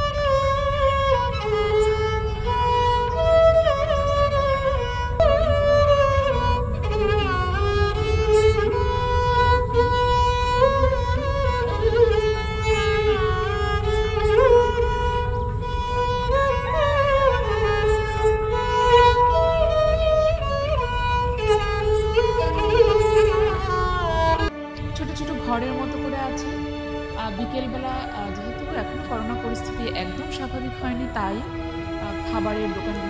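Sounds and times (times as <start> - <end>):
bowed string melody: 0.0 - 33.0.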